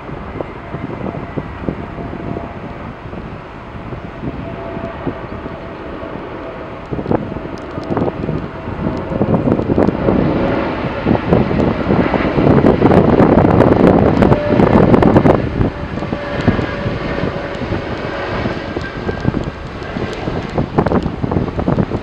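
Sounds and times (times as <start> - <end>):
jet engines: 0.0 - 22.0
wind buffeting microphone: 0.0 - 22.0.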